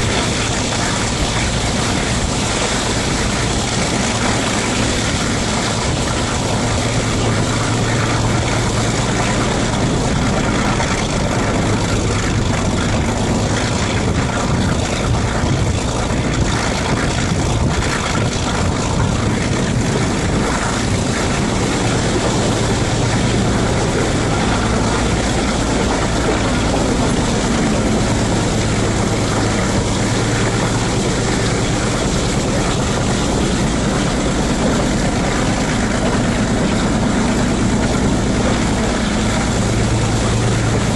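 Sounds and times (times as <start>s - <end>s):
diesel locomotive engine running: 0.0s - 40.9s
wind and wheel noise: 0.0s - 40.9s.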